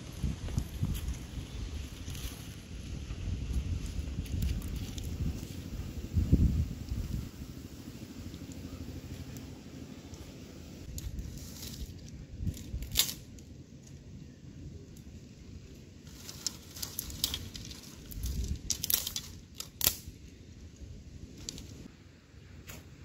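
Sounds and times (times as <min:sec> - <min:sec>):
rustling leaves: 0:00.0 - 0:23.0.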